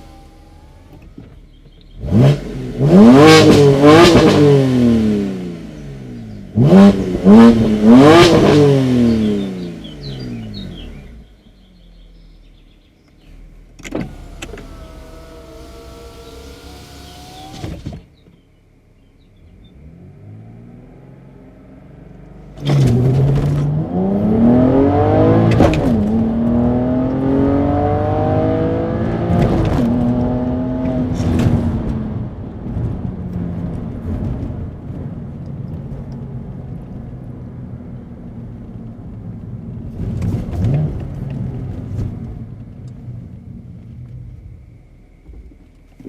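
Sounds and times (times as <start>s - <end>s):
car engine accelerating: 0.0s - 46.0s.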